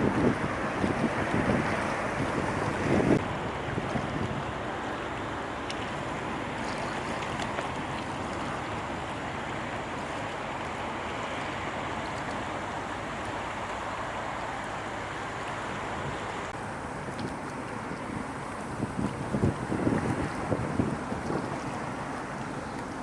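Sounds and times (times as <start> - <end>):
low engine hum: 0.0 - 23.0
water rushing: 0.0 - 23.0.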